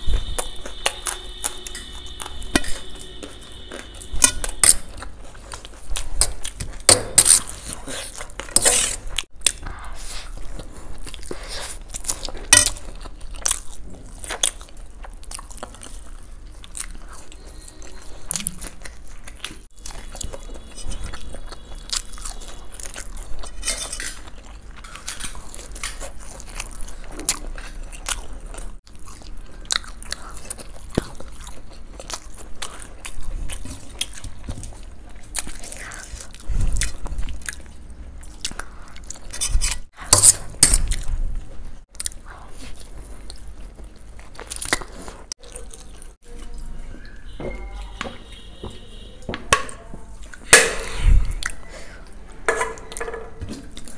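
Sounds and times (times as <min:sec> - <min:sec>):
crunchy bites and chewing: 0:00.0 - 0:46.2.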